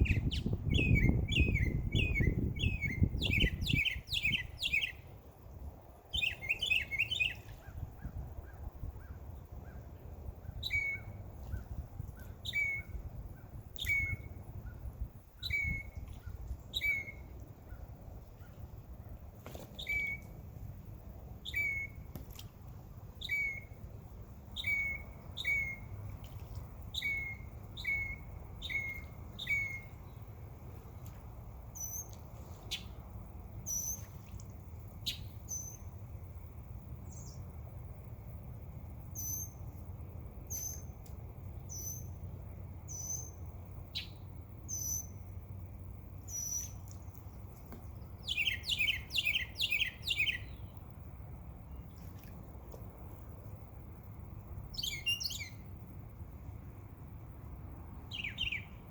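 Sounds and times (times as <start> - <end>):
songbirds chirping: 0.0 - 37.8, 39.0 - 55.7, 57.3 - 58.9.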